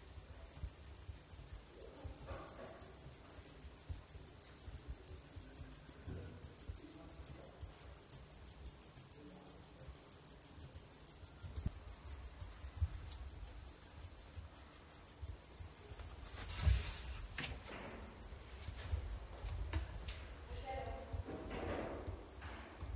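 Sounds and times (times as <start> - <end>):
cricket chirping: 0.0 - 22.9.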